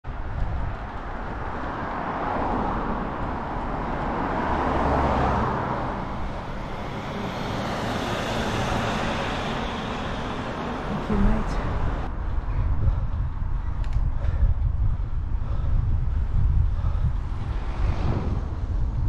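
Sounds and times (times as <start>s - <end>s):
road and tyre rush: 0.0s - 19.0s
cars passing: 0.1s - 13.6s, 15.1s - 19.0s.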